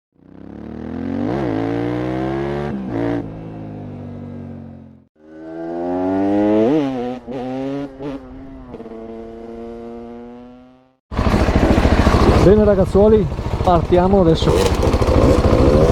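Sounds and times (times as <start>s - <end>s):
motorcycle engine revving: 0.1s - 15.9s.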